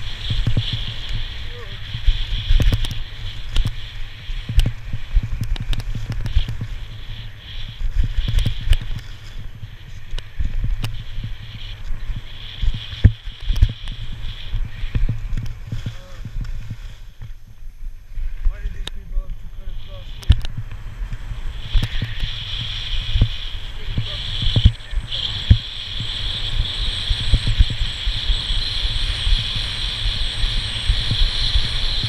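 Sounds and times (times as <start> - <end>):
skis scraping over snow: 0.0 - 32.0
wind rumble on microphone: 0.0 - 32.0.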